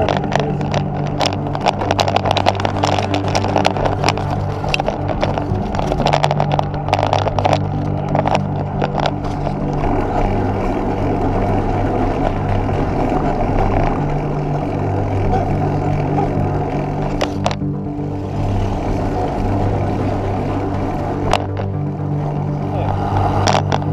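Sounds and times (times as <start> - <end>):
road rumble: 0.0 - 23.9
wind rushing over camera: 0.0 - 23.9.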